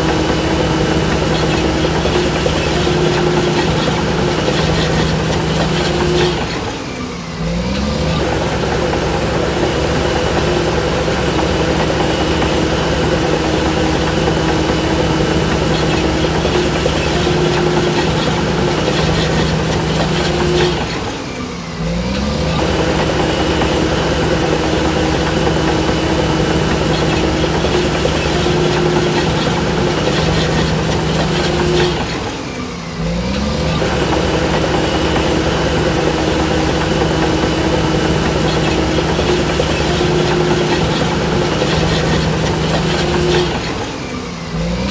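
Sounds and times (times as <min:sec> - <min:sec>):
bulldozer track clatter: 0:00.0 - 0:44.9
diesel engine running under load: 0:00.0 - 0:44.9.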